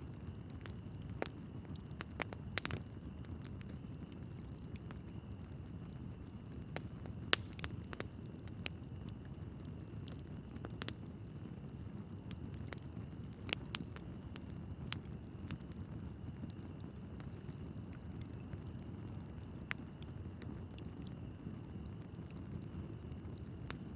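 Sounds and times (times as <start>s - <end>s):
low rumble of flames: 0.0s - 23.9s
logs crackling and popping: 0.1s - 23.9s.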